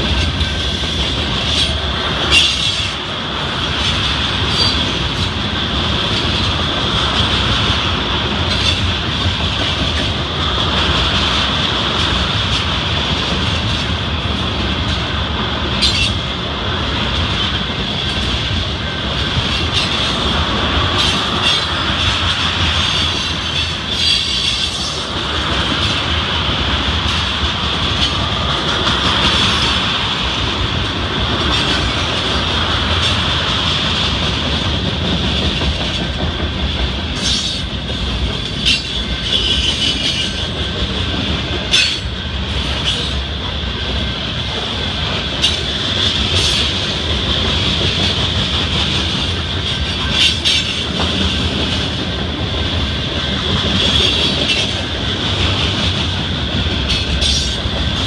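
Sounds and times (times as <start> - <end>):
steel wheels rumbling on rail: 0.0 - 58.0
wheels clacking over rail joints: 0.0 - 58.0.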